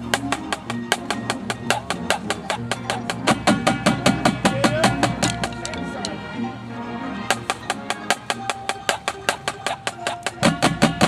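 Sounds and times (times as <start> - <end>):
sharp drum strokes: 0.0 - 5.8, 7.3 - 11.0
low ensemble sound: 0.0 - 11.0.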